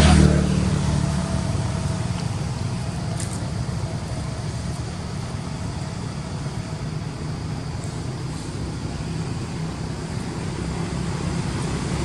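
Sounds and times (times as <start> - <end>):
vehicle motor rumble: 0.0 - 12.0.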